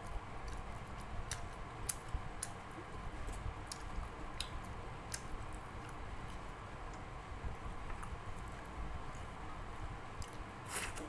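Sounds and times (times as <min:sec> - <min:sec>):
soft chewing: 0:00.0 - 0:09.5, 0:10.1 - 0:11.0.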